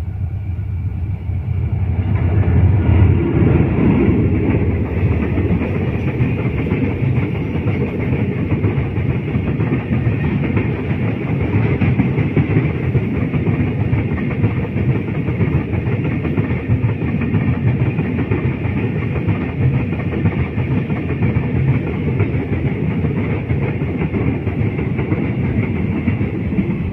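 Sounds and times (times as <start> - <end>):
freight train rolling past: 0.0 - 26.9
rhythmic wheel clatter: 1.7 - 26.9.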